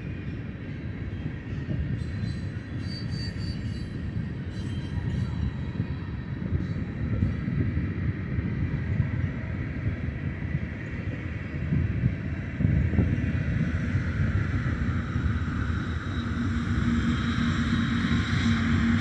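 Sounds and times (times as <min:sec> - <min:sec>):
freight train rolling past: 0:00.0 - 0:19.0.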